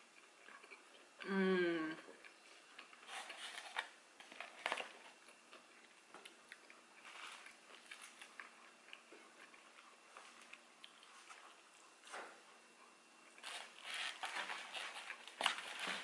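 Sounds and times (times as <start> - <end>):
chewing and crunching chips: 0.0 - 1.2, 2.0 - 16.0.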